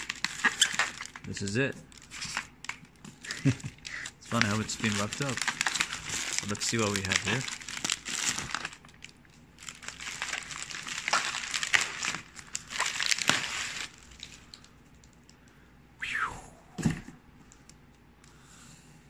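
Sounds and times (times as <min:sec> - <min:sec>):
bubble wrap crinkling: 0:00.0 - 0:15.3.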